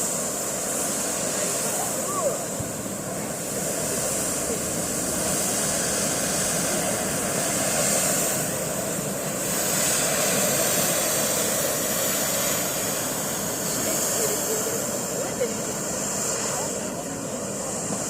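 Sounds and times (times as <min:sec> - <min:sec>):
fireworks hissing: 0:00.0 - 0:18.0.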